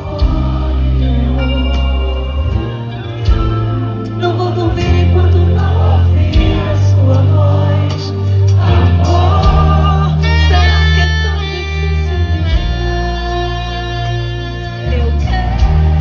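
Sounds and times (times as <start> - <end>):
heavy bass notes: 0.0 - 16.0
live calypso band playing: 0.0 - 16.0.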